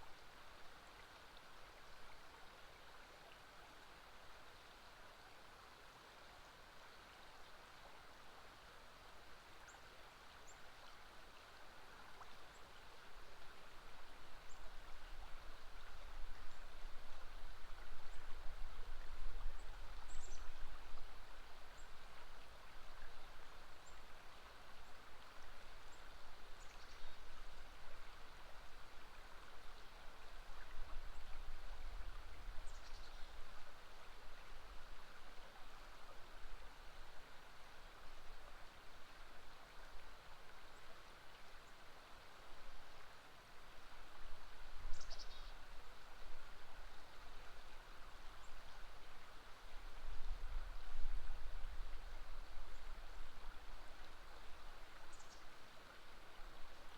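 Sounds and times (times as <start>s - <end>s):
river water running: 0.0s - 56.9s.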